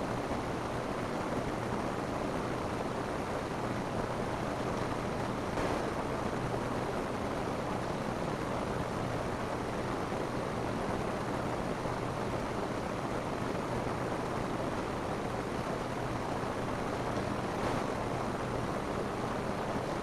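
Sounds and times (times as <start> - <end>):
rain on a roof: 0.0 - 20.0.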